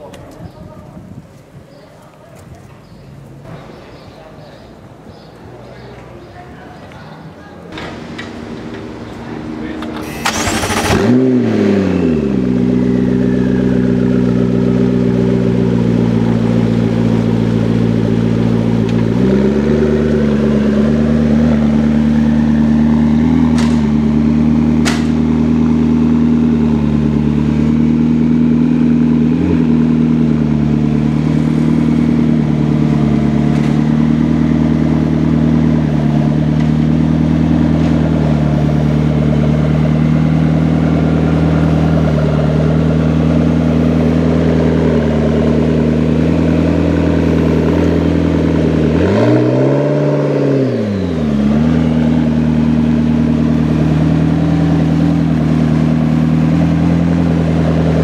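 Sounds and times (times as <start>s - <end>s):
car engine idling: 7.7s - 49.4s, 50.8s - 58.0s.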